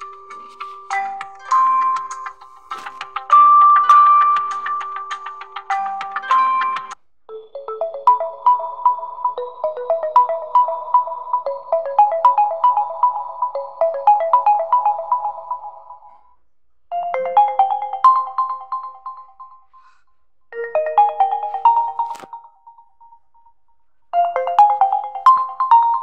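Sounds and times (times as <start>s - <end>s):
phone ringtone melodies: 0.0s - 16.3s, 16.9s - 19.9s, 20.6s - 26.0s.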